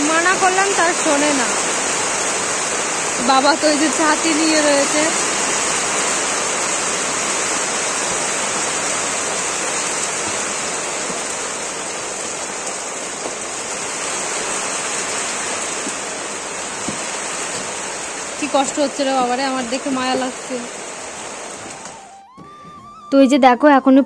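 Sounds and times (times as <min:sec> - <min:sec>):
rain falling: 0:00.0 - 0:23.1.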